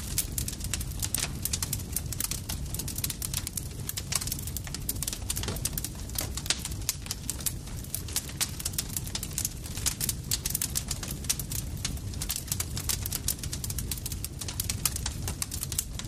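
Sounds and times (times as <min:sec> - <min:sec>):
campfire crackling and popping: 0:00.0 - 0:16.0
low rumble of burning wood: 0:00.0 - 0:16.0.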